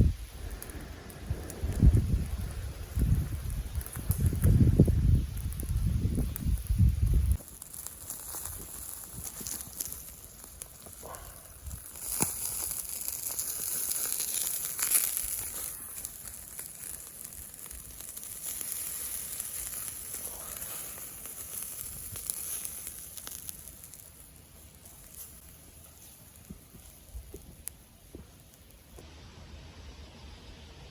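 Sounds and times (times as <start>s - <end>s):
food sizzling over campfire: 0.0s - 29.1s
small crackles and clicks: 0.2s - 29.0s.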